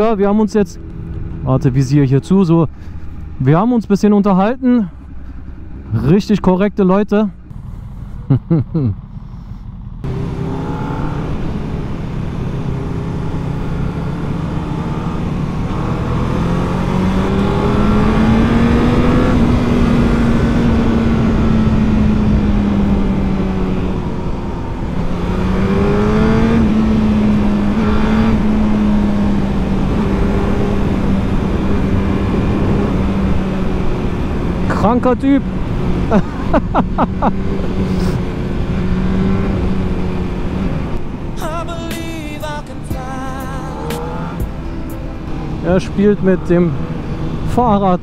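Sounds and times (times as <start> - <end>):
motorcycle engine humming: 0.0 - 48.0.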